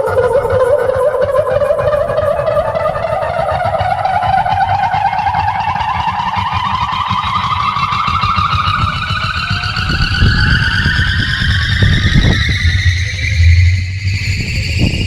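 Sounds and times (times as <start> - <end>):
heavy bass pulses: 0.0 - 15.0
tone gliding upward in pitch: 0.0 - 15.0.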